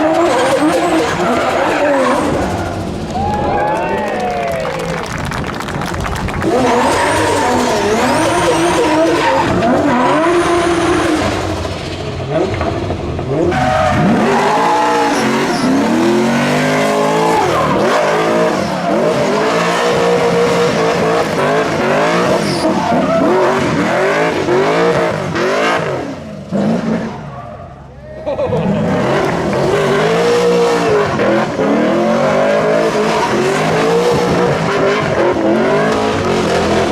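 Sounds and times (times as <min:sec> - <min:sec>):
car engines revving hard: 0:00.0 - 0:36.9.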